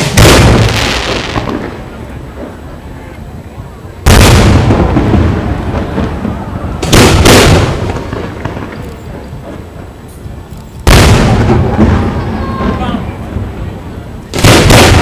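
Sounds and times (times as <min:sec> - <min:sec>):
firework shells booming: 0:00.0 - 0:02.8, 0:04.0 - 0:10.0, 0:10.8 - 0:15.0.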